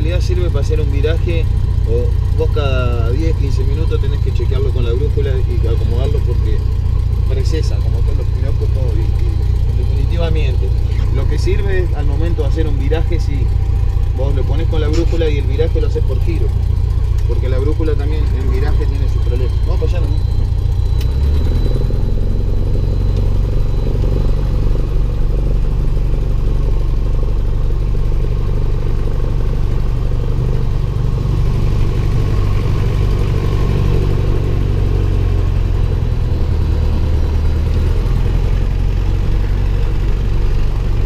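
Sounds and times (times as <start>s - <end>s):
light aircraft engine droning: 0.0s - 41.0s.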